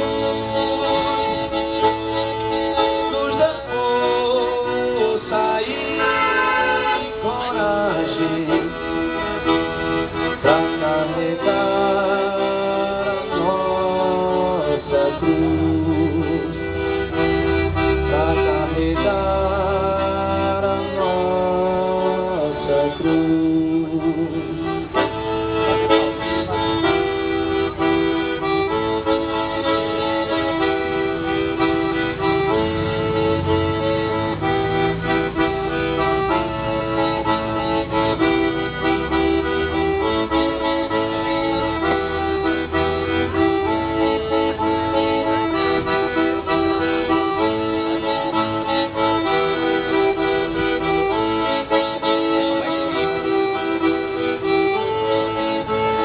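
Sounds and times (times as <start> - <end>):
accordion playing a tune: 0.0 - 56.0.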